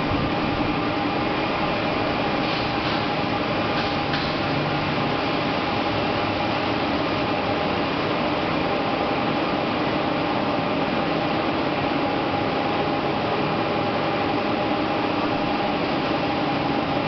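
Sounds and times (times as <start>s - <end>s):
factory machinery noise: 0.0s - 17.0s.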